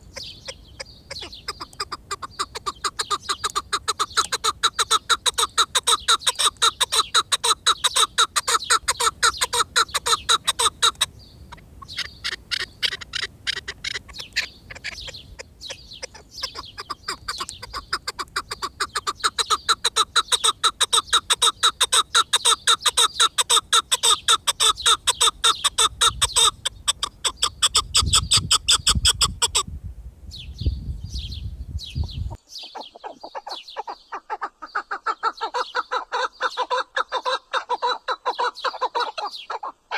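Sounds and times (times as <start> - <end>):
partridge chuck calls: 0.0 - 29.7, 31.9 - 39.9.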